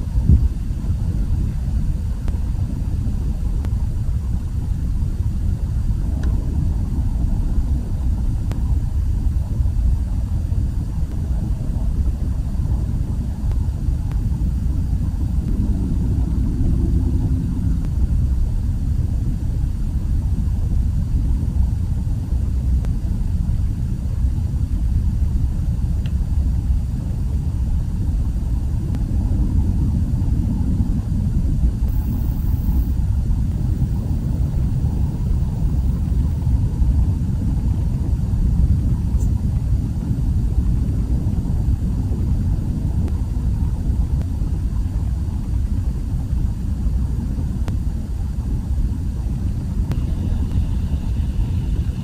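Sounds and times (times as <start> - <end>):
faint hum: 0.0 - 52.0
low rumbling noise: 0.0 - 52.0.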